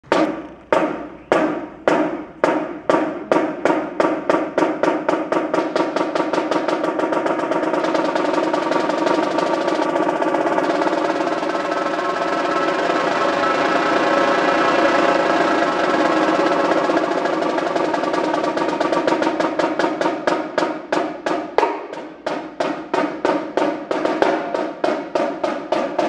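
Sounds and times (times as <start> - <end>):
snare drum roll: 0.0 - 26.0.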